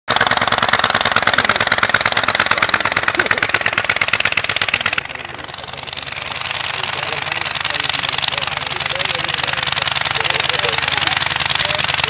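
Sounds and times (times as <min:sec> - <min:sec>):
aircraft engine running: 0:00.1 - 0:12.0.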